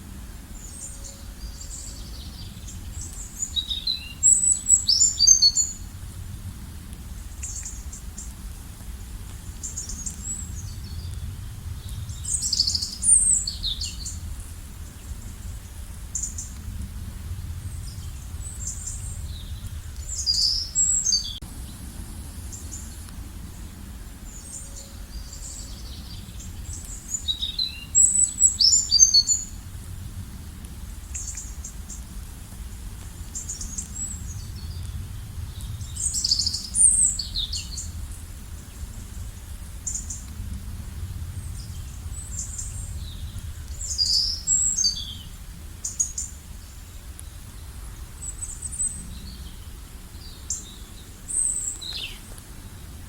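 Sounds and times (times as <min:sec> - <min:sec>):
low outdoor rumble: 0:00.0 - 0:53.0
songbirds chirping: 0:00.0 - 0:53.0.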